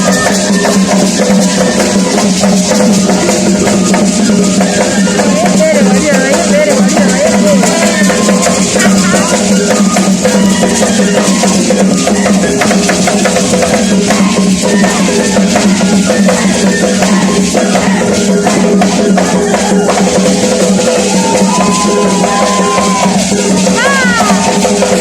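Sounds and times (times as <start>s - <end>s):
big drums drumming: 0.0s - 25.0s.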